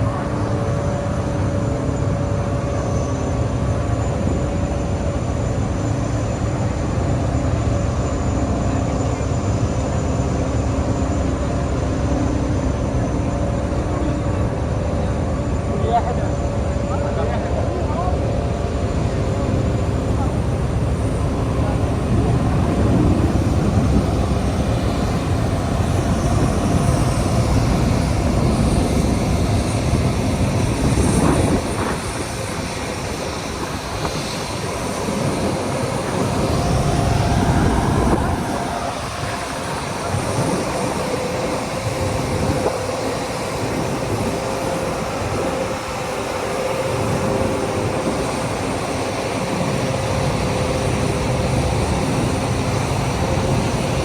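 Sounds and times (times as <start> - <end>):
jet engine rumble: 0.0 - 54.0
jet engine whine: 0.0 - 54.0.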